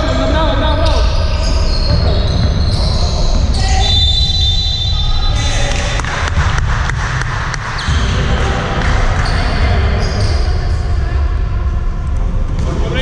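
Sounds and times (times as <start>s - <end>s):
low rumble of hall noise: 0.0s - 13.0s.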